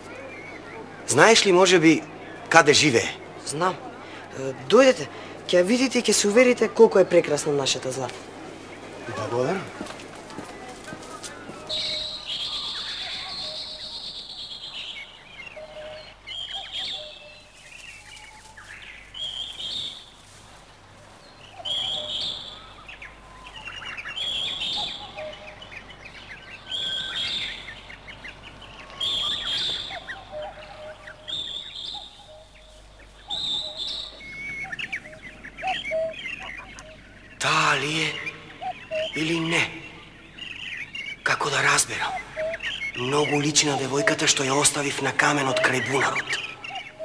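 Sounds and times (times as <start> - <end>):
bird chirping: 0.0 - 47.0.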